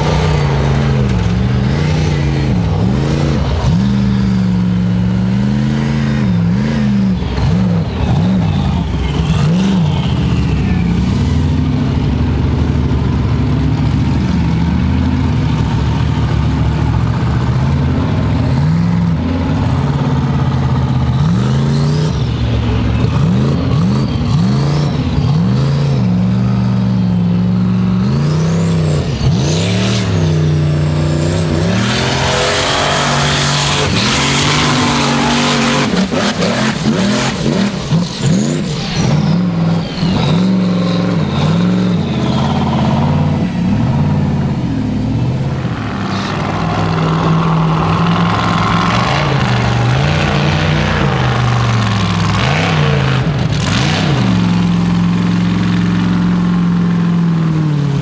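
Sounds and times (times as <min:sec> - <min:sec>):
buggy engine revving hard: 0:00.0 - 0:58.0.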